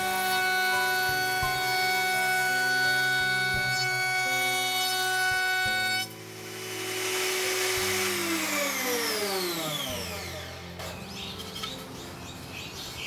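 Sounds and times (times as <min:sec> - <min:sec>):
motor winding down whine: 0:00.0 - 0:10.7
router cutting plywood: 0:00.0 - 0:11.7.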